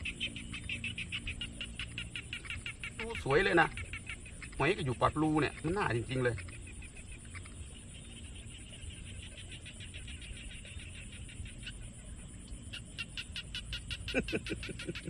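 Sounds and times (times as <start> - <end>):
frogs calling in chorus: 0.0 - 15.0.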